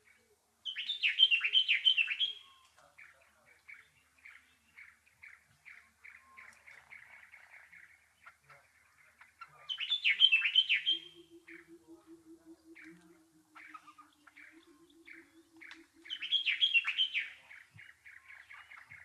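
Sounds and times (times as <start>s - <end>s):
warbler singing: 0.0s - 19.0s.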